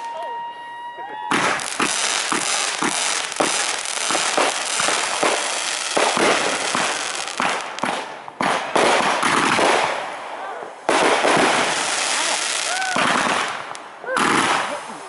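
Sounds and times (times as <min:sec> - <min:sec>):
fireworks exploding: 0:00.0 - 0:15.0.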